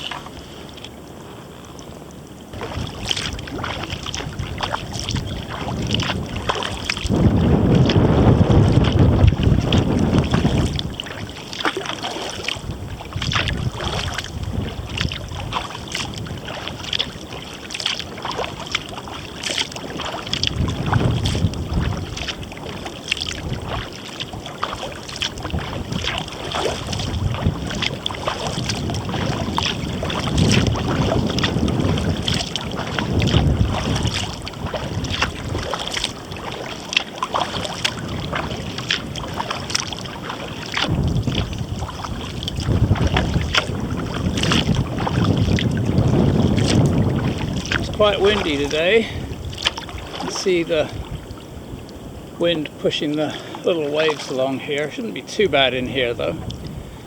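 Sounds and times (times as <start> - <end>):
paddle splashing in water: 0.0 - 57.0
wind buffeting microphone: 0.0 - 57.0
water dripping: 1.6 - 52.0.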